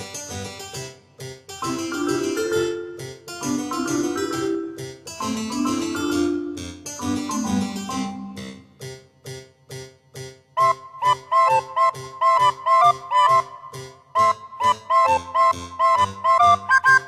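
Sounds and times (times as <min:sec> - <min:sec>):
melody of held notes: 0:01.5 - 0:08.8, 0:10.6 - 0:17.0
keyboard chords: 0:01.5 - 0:09.0, 0:10.6 - 0:17.0.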